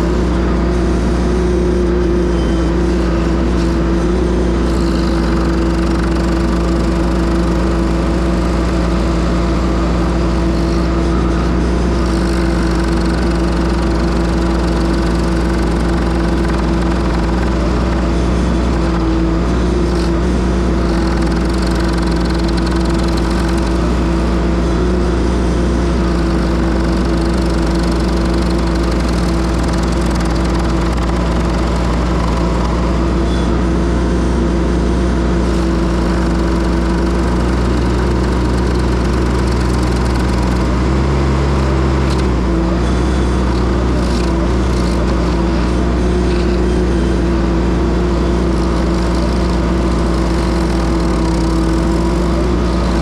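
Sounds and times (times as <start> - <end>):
skid steer engine droning: 0.0 - 53.0.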